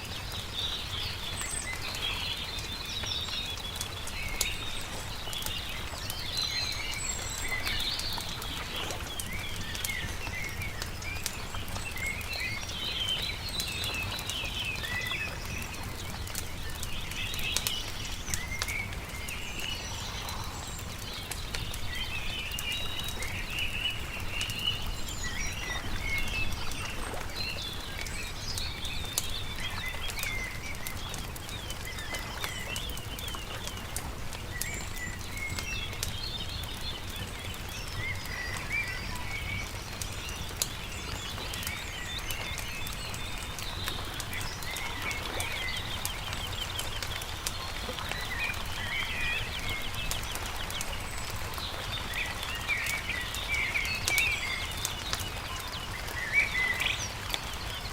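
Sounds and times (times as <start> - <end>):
campfire crackling: 0.0 - 57.9
songbirds chirping: 0.0 - 57.9.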